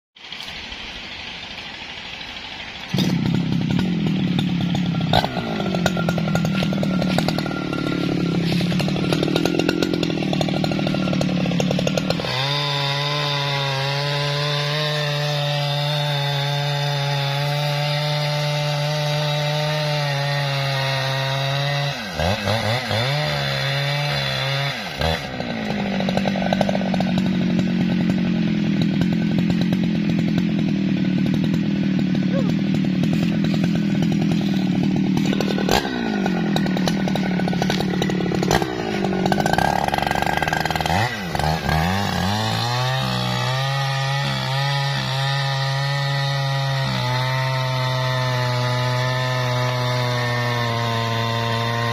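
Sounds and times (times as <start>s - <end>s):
chainsaw cutting tree trunk: 0.2s - 51.9s.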